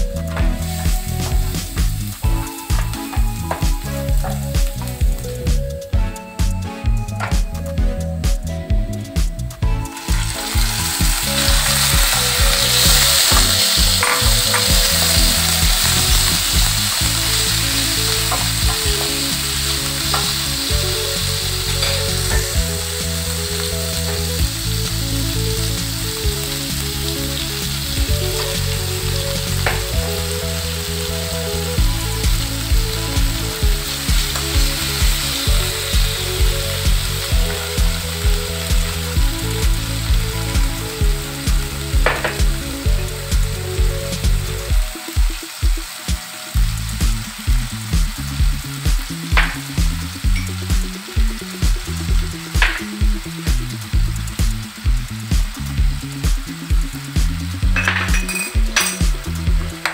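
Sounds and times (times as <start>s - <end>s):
beef sizzling in a frying pan: 0.4s - 5.6s, 9.8s - 59.9s.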